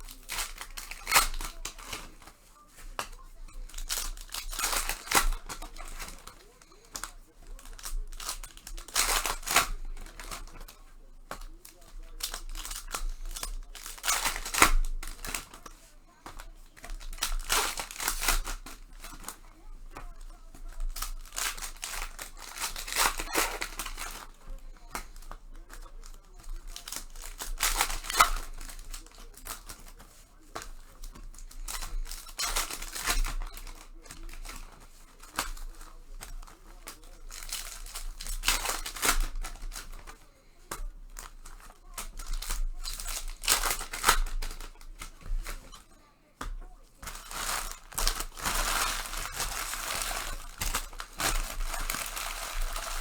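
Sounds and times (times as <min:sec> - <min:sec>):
plastic wrappers crinkling and tearing: 0:00.0 - 0:53.0.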